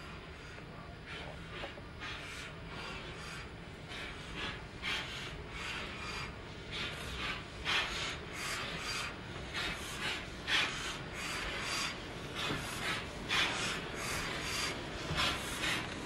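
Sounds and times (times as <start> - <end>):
steam engine chuffing: 0.0 - 16.0.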